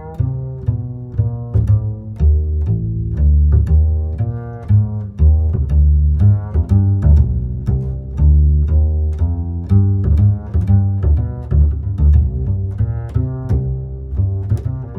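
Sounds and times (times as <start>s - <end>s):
plucked string bass line: 0.0s - 14.9s.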